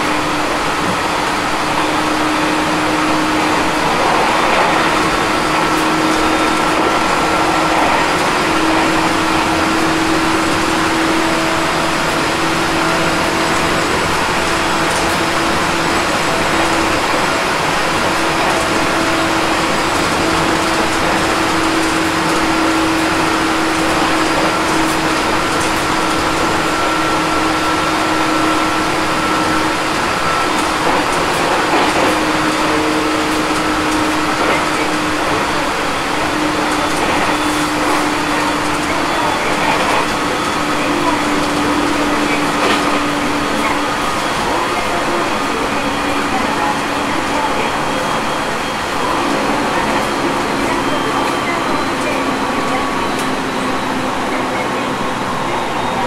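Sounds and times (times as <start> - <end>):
train wheel and rail noise: 0.0 - 56.0.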